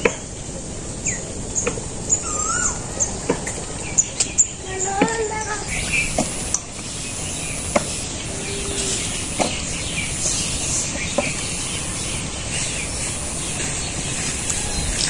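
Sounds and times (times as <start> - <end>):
birds chirping: 0.0 - 15.0
steady hiss and rumble: 0.0 - 15.0.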